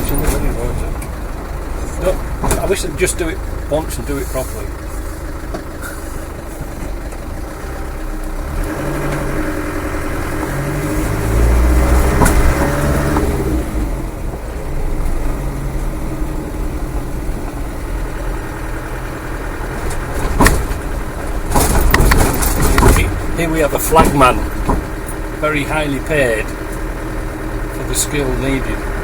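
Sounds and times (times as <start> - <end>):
diesel engine running in cab: 0.0 - 29.0.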